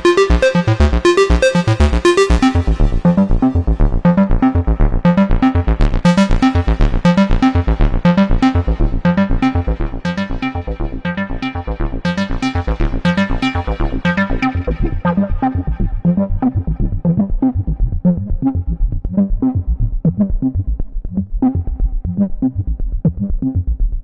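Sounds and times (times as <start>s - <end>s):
synthesizer sequenced pattern: 0.0s - 24.0s.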